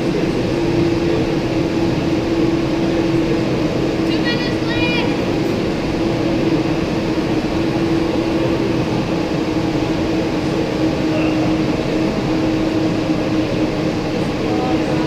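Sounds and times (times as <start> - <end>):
exercise bike flywheels whirring: 0.0 - 15.0
steady hum: 0.0 - 15.0.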